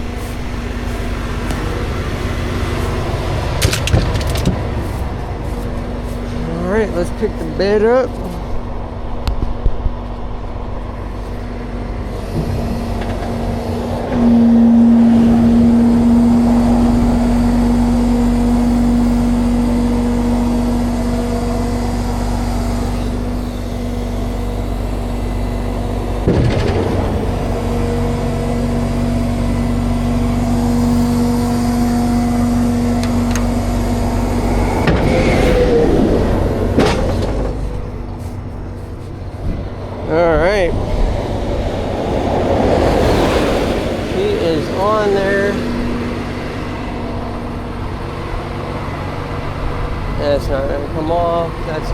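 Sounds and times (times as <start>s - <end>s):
tow truck engine running: 0.0s - 51.9s
loud hydraulic hum: 10.3s - 51.9s.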